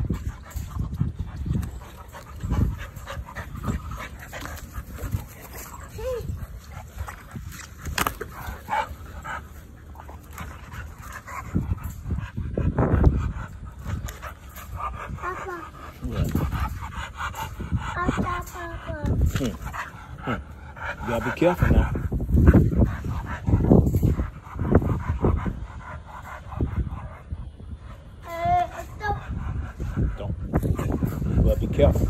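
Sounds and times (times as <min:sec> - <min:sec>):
dogs whimpering and panting: 0:00.0 - 0:32.0.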